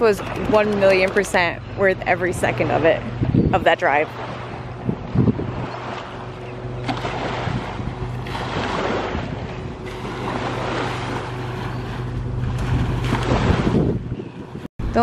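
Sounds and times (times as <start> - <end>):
small waves lapping on shore: 0.0 - 14.6
steady low hum: 0.0 - 15.0
wind buffeting microphone: 0.0 - 15.0.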